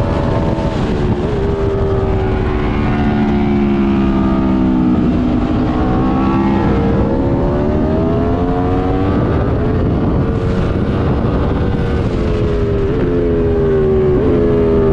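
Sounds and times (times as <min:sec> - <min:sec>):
motorcycle engine revving: 0:00.0 - 0:14.9
wind rush: 0:00.0 - 0:14.9.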